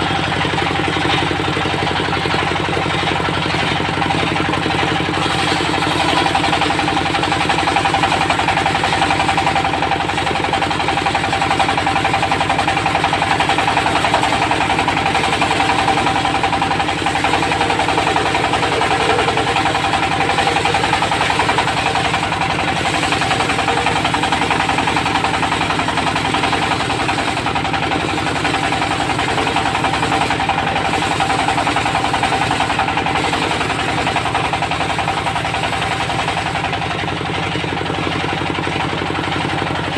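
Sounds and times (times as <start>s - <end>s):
stationary engine knocking: 0.0s - 39.9s.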